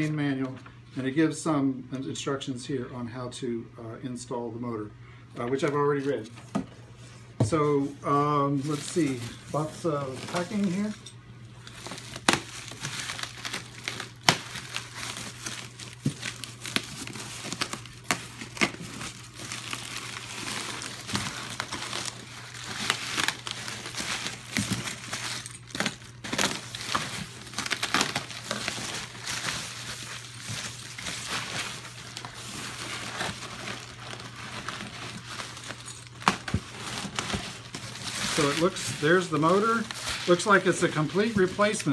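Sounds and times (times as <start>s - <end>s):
bubble wrap crinkling: 7.6s - 41.9s.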